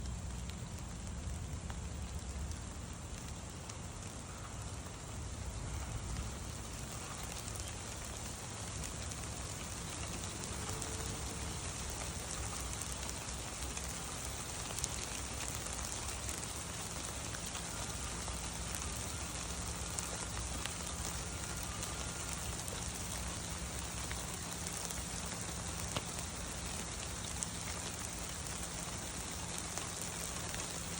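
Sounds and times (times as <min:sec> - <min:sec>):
steady rain falling: 0:00.0 - 0:30.9.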